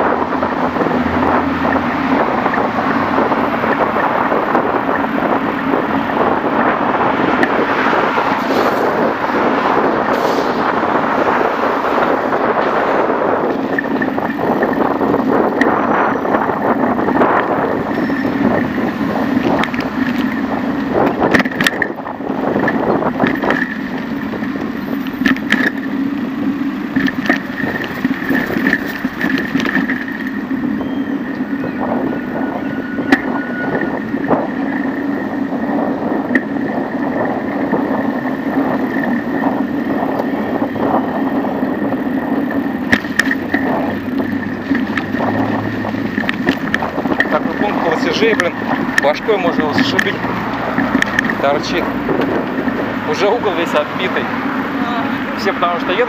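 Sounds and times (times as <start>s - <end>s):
bicycle tyre noise on asphalt: 0.0s - 56.0s
bike rattling over bumps: 0.0s - 56.0s
wind rushing over microphone: 0.0s - 56.0s.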